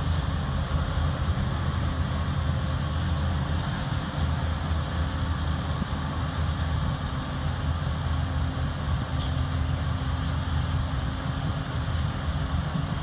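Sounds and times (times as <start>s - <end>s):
harvesting machinery engine drone: 0.0s - 13.0s.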